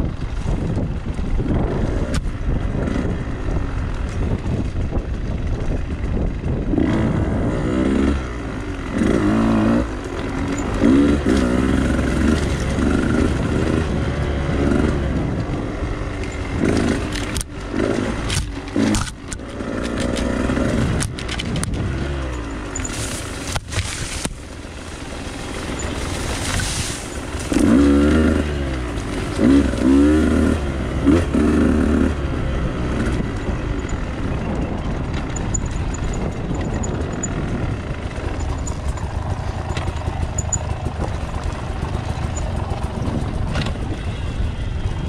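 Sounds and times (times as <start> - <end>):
dirt bike engine revving: 1.3 - 5.1, 5.8 - 45.0.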